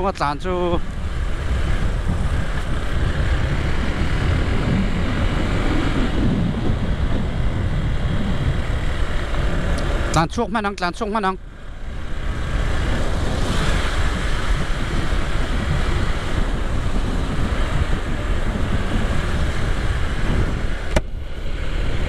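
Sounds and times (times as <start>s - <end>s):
motorcycle engine and tyre noise: 0.0s - 22.0s
wind rushing over microphone: 0.0s - 22.0s.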